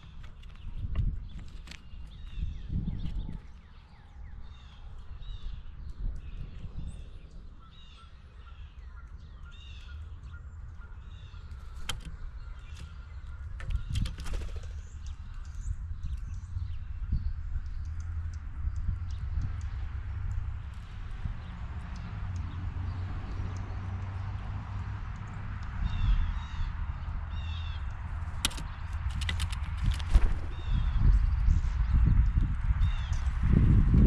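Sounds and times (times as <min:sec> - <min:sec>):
birds calling: 0:00.0 - 0:24.4, 0:25.0 - 0:33.6.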